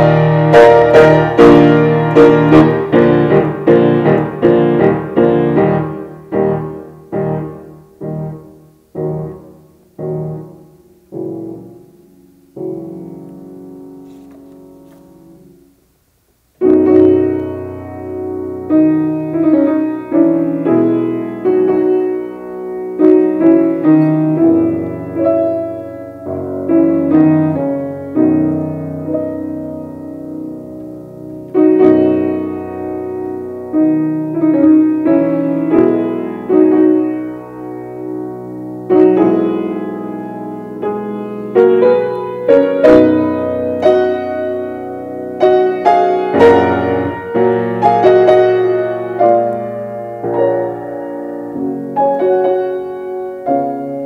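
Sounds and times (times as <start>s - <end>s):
grand piano classical piece: 0.0s - 54.0s.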